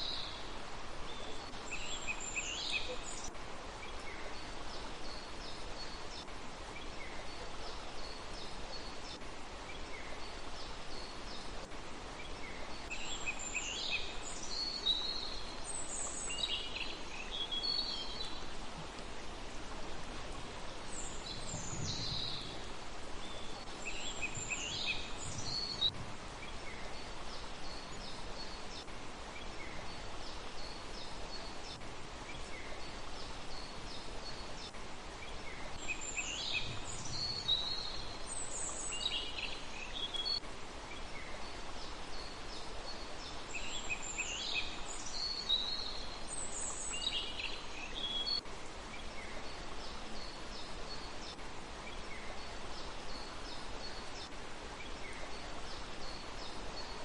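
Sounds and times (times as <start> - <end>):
background hiss: 0.0 - 57.0
songbirds chirping: 0.0 - 57.0
bird song phrase: 1.1 - 11.5, 12.2 - 18.5, 20.9 - 57.0.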